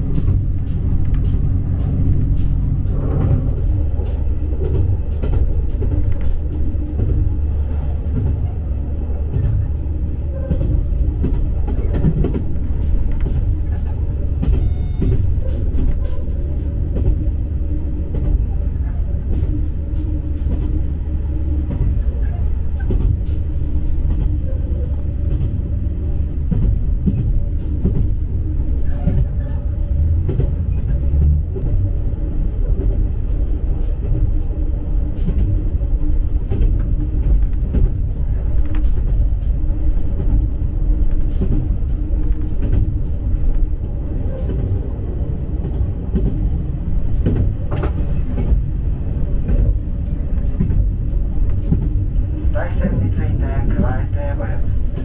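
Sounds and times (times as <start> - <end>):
railcar engine and wheels rumble: 0.0 - 55.0.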